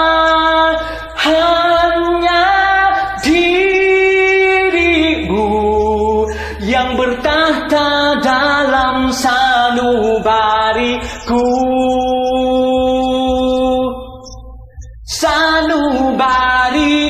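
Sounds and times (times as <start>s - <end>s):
man singing a pop ballad: 0.0s - 14.4s, 15.1s - 17.0s.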